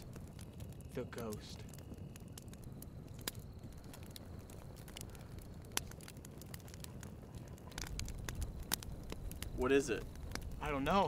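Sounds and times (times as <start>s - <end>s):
campfire crackling: 0.0s - 11.0s
fire pops: 0.0s - 11.0s.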